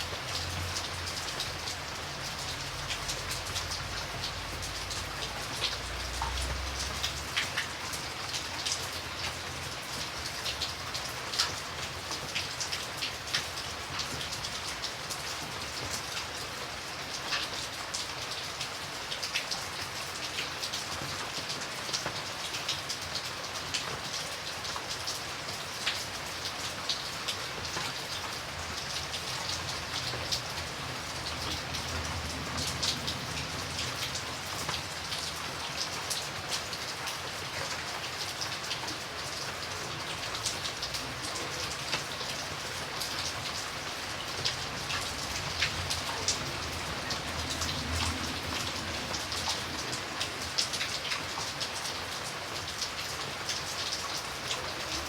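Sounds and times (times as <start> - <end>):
rain hiss: 0.0 - 55.0
raindrops ticking on surface: 0.0 - 55.0.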